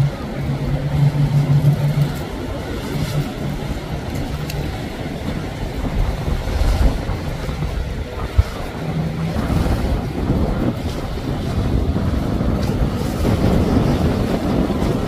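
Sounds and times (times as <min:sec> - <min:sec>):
boat engines rumbling: 0:00.0 - 0:15.0
waves splashing: 0:00.0 - 0:15.0
wind buffeting microphone: 0:00.0 - 0:15.0.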